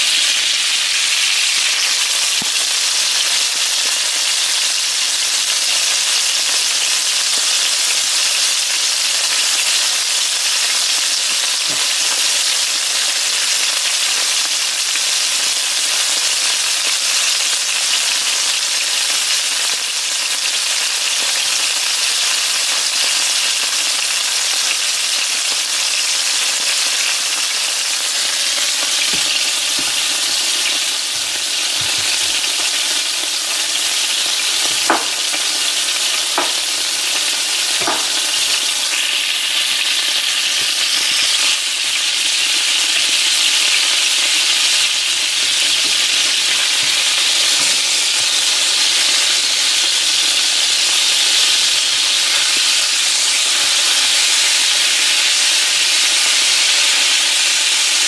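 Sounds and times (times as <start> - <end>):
fish frying in oil: 0.0 - 58.0.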